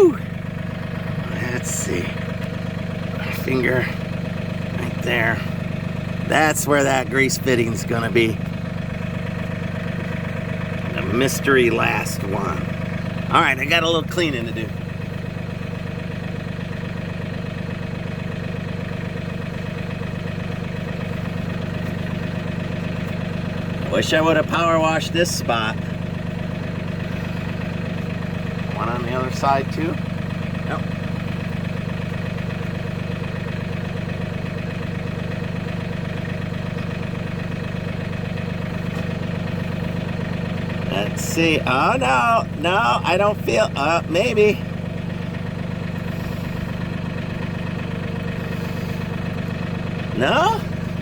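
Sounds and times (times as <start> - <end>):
tractor diesel engine idling: 0.0 - 51.0.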